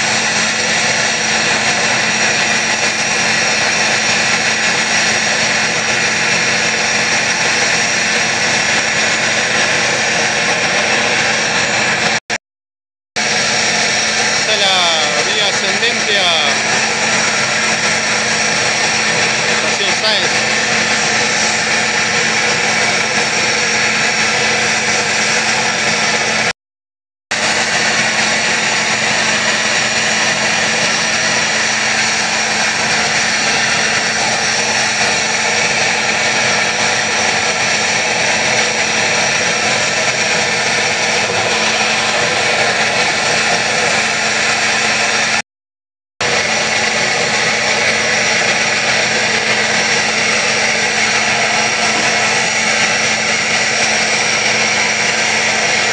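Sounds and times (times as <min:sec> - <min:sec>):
portable track tool engine running: 0:00.0 - 0:12.3, 0:13.2 - 0:26.5, 0:27.3 - 0:45.4, 0:46.2 - 0:55.9.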